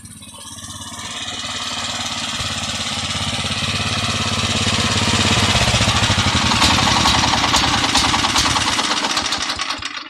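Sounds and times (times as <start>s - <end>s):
power tiller engine running: 0.0s - 10.0s.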